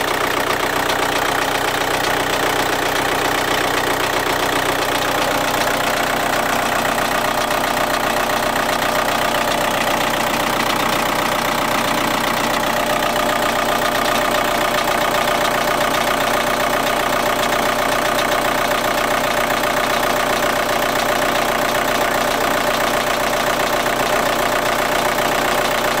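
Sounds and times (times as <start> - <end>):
diesel engine idling: 0.0 - 26.0
engine clatter: 0.0 - 26.0.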